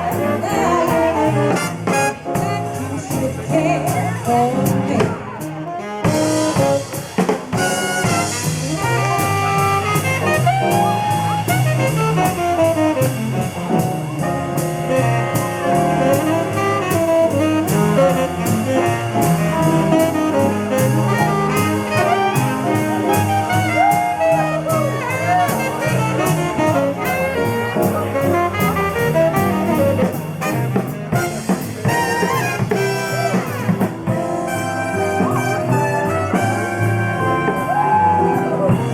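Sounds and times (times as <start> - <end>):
drum kit beat: 0.0 - 38.9
jazz music with saxophone: 0.0 - 38.9.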